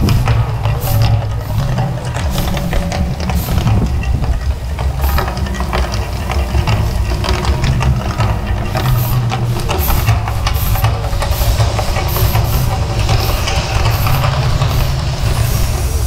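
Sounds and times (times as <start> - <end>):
deep continuous rumble: 0.0 - 16.0
hissing gas flames and water jets: 0.0 - 16.0.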